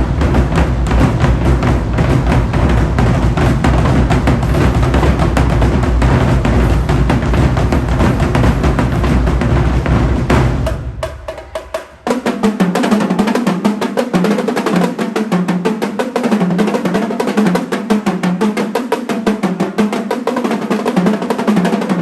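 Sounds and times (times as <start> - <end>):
marching drumline cadence: 0.0 - 22.0.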